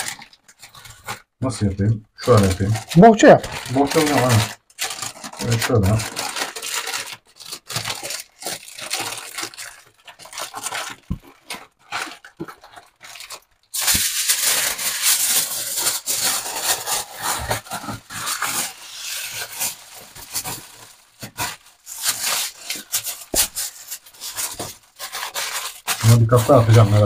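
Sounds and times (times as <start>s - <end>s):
aluminium foil crinkling: 0.0s - 1.3s, 2.2s - 27.0s.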